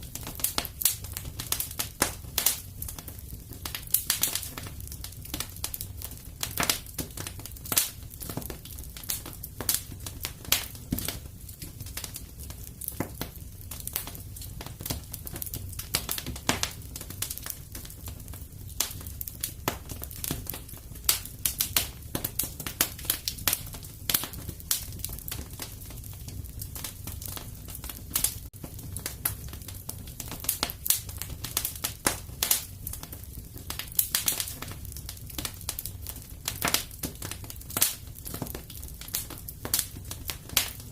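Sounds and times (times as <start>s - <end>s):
fire crackling and popping: 0.0s - 40.9s
low steady fire rumble: 0.0s - 40.9s.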